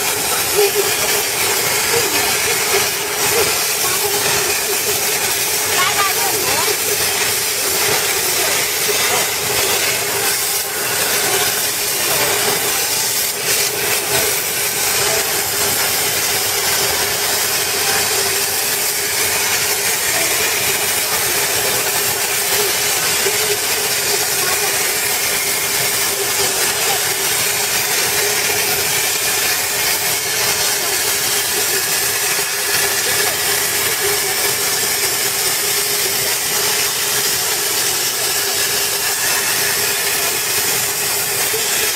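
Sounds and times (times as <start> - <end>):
plasma cutter hissing: 0.0 - 41.9.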